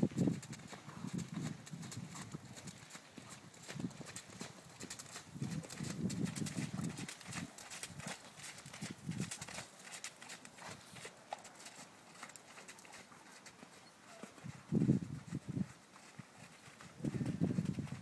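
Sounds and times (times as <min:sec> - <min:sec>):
horse hoofbeats trotting: 0:00.0 - 0:18.0.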